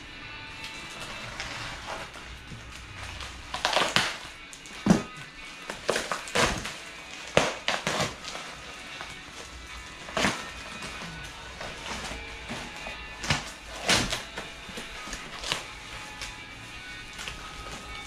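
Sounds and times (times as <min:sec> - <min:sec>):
background music: 0:00.0 - 0:18.0
paper and foam wrap crinkling: 0:00.0 - 0:18.0.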